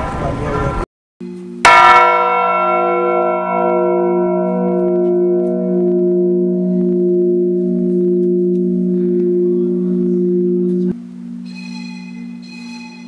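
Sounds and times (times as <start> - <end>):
church bell ringing: 0.0 - 13.0.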